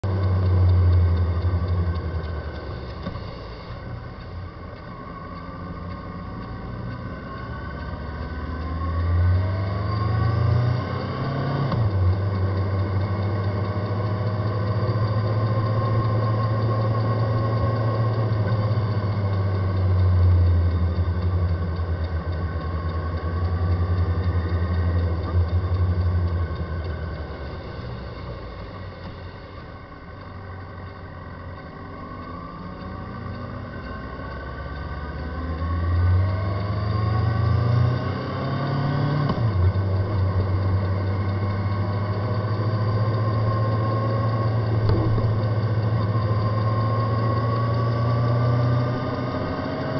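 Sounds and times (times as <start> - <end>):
abnormal noise from front wheel: 0.0 - 49.9.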